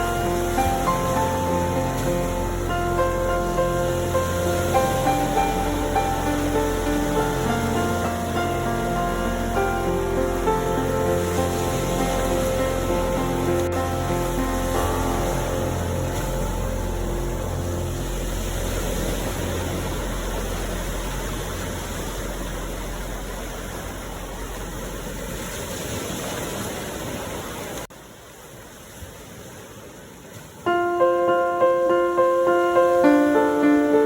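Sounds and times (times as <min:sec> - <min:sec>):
gentle piano melody: 0:00.0 - 0:25.0, 0:30.6 - 0:34.0
sea waves washing: 0:00.0 - 0:34.0.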